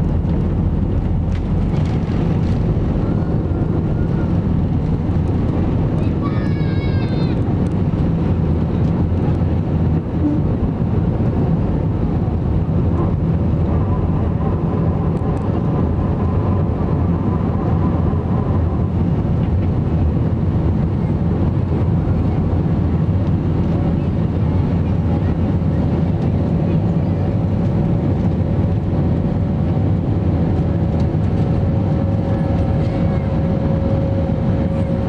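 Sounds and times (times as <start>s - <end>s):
jet engines at takeoff thrust: 0.0s - 35.0s.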